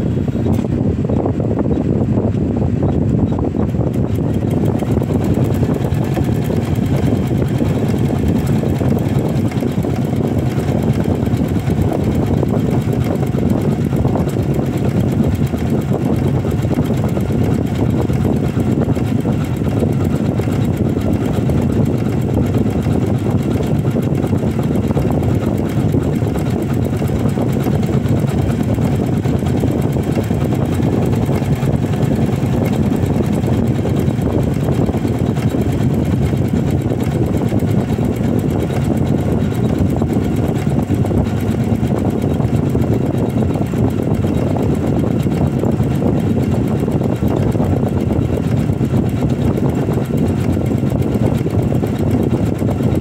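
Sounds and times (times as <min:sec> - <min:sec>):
embroidery machine stitching: 0:03.4 - 0:53.0.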